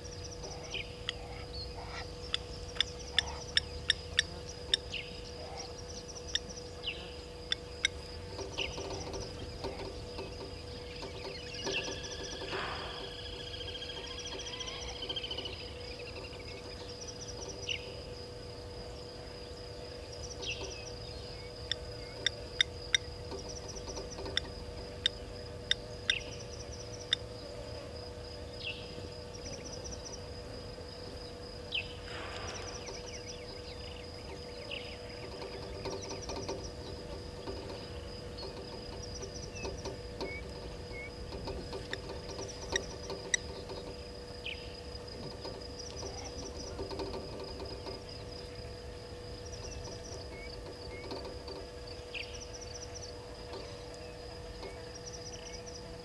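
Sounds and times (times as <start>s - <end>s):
high insect trill: 0.0s - 56.0s.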